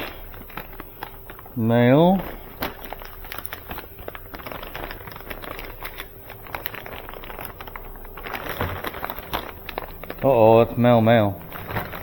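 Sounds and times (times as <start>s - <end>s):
cables rustling and clicking: 0.0s - 12.0s.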